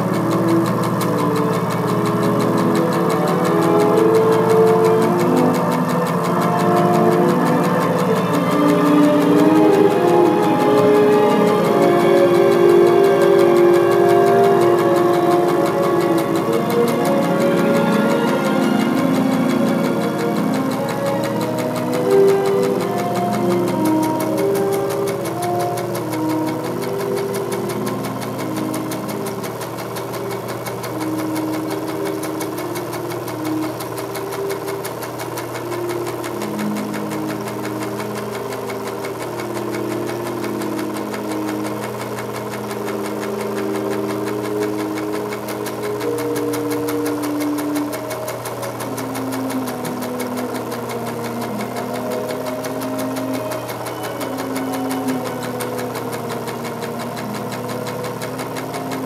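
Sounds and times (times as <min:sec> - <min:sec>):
fast mechanical rattle: 0:00.0 - 0:59.0.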